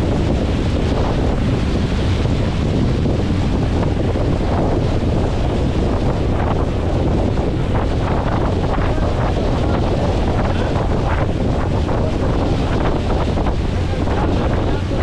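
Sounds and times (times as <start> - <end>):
boat water noise: 0.0 - 15.0
wind buffeting microphone: 0.0 - 15.0.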